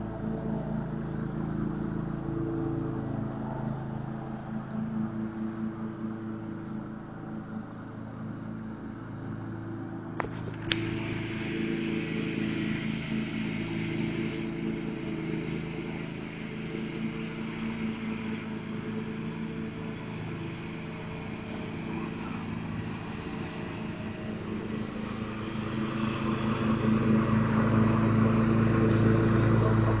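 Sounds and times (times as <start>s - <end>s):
riding lawn tractor engine: 0.0s - 30.0s.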